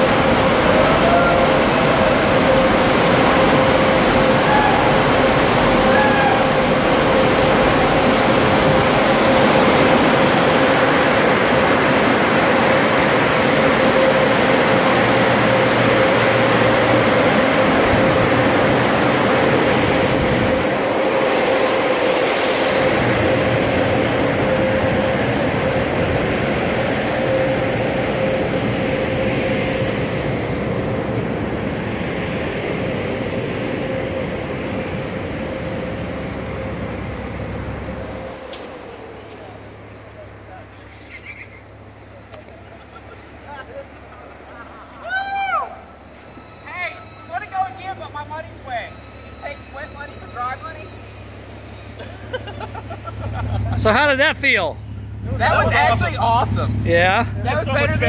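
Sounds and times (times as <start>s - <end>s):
car wash dryer blowers rushing: 0.0s - 58.0s.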